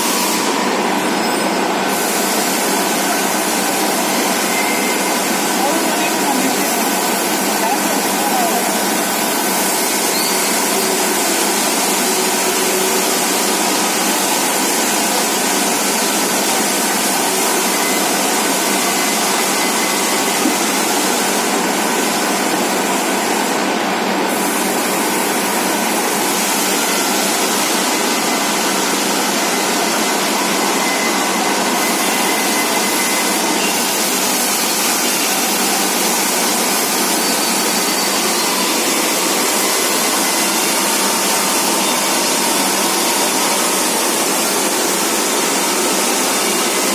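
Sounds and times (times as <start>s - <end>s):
lathe running with faint whine: 0.0s - 46.9s.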